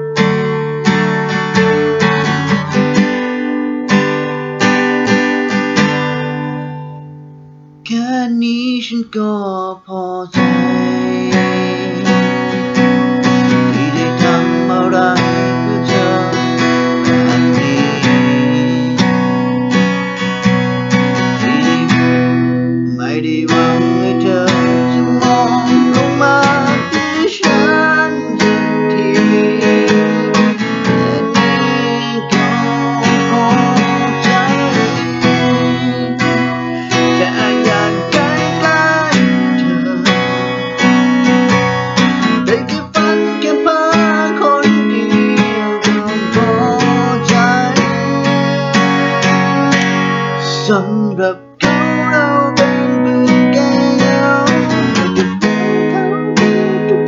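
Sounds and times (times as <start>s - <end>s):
acoustic guitar strumming chords: 0.0s - 57.0s.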